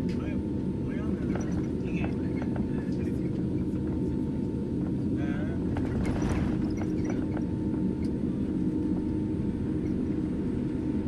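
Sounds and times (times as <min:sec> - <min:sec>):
airliner cabin engine rumble: 0:00.0 - 0:11.0
faint steady whine: 0:00.0 - 0:11.0.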